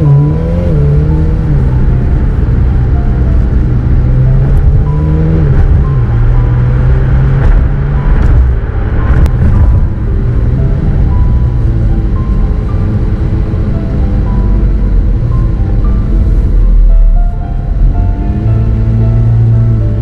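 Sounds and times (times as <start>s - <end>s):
background music: 0.0s - 20.0s
sports car engine running: 0.0s - 20.0s.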